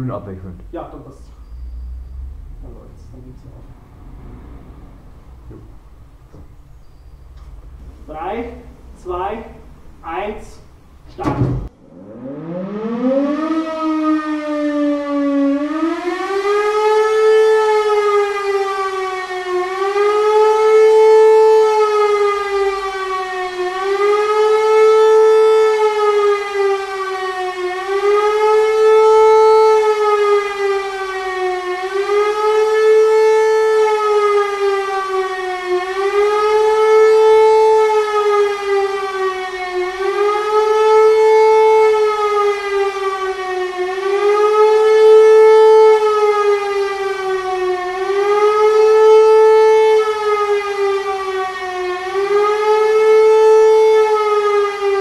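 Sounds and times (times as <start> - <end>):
air-raid siren howling: 0.0 - 55.0.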